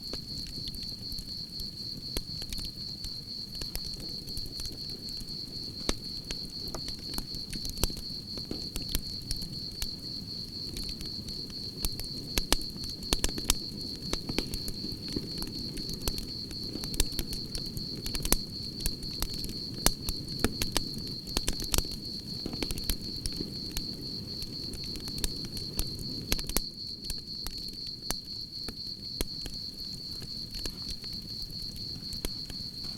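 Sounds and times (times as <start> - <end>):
campfire crackling and popping: 0.0 - 32.9
crickets trilling: 0.0 - 32.9.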